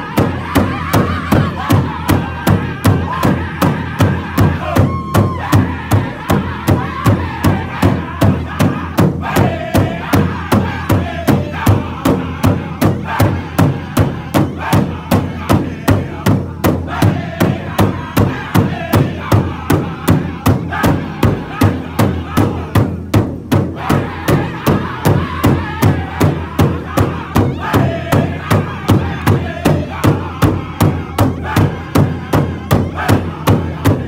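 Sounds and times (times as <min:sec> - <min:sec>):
group singing in high voices: 0:00.0 - 0:34.0
large drum beating: 0:00.0 - 0:34.0.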